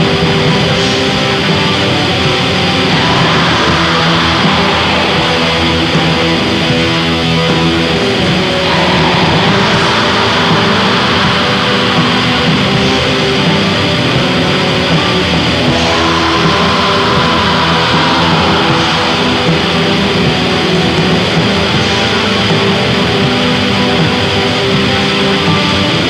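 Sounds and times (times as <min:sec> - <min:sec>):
black metal music: 0:00.0 - 0:26.0.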